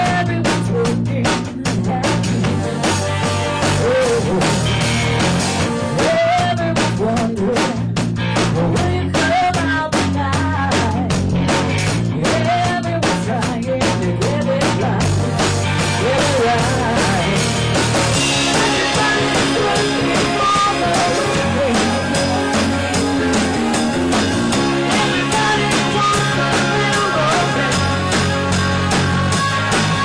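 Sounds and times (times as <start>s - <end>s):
person singing: 0.0s - 5.0s, 5.6s - 11.2s, 12.0s - 15.2s, 15.8s - 30.0s
drum kit beat: 0.0s - 30.0s
electric guitars: 0.0s - 30.0s.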